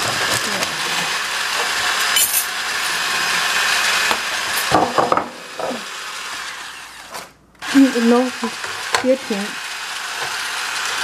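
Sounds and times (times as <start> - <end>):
rotary egg beater whirring: 0.0 - 11.0.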